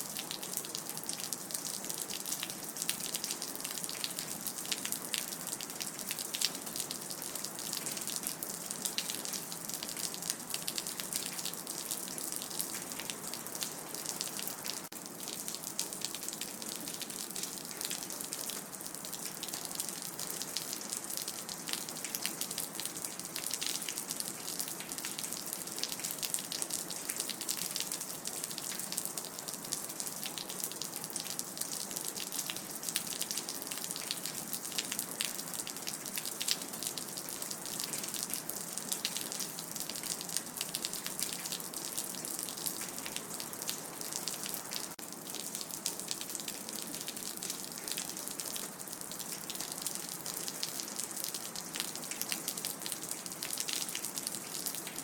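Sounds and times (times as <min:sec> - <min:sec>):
rain dripping: 0:00.0 - 0:55.0.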